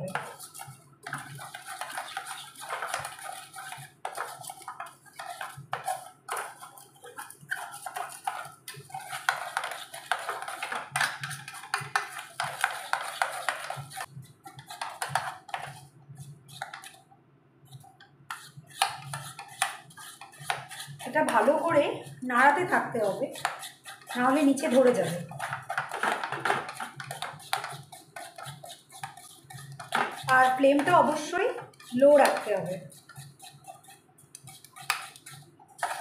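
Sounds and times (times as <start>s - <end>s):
spatula scraping a pot: 0.0s - 36.0s.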